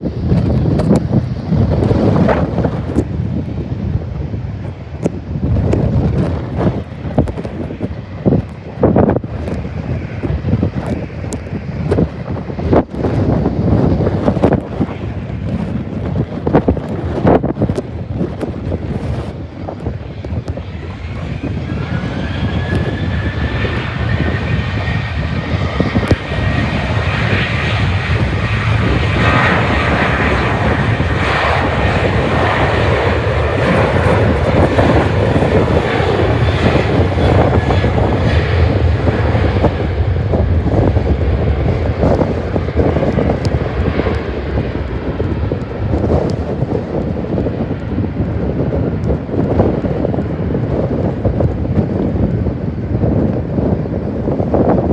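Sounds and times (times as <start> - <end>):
jet engine rumble: 0.0 - 54.9
jet engine whine: 0.0 - 54.9
wind buffeting microphone: 0.0 - 54.9.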